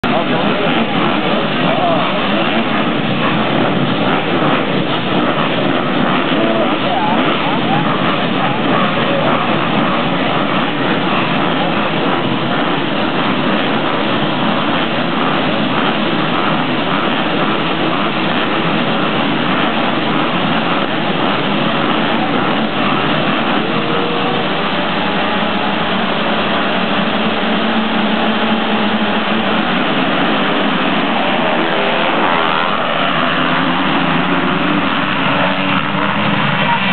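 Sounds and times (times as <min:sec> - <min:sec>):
motocross bikes revving: 0:00.0 - 0:36.9.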